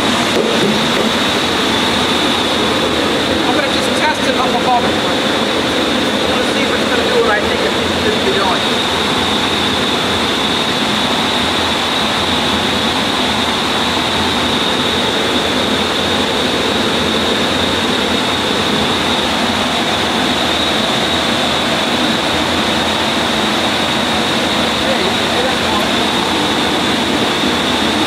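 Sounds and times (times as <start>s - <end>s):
cnc router running: 0.0s - 28.0s
high machine whine: 0.0s - 28.0s.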